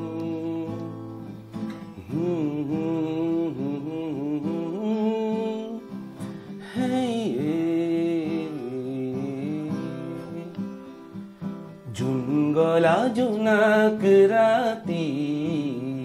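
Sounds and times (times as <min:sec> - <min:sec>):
man singing long held notes: 0:00.0 - 0:01.0, 0:01.9 - 0:06.0, 0:06.6 - 0:10.6, 0:11.9 - 0:16.0
strummed acoustic guitar: 0:00.0 - 0:16.0.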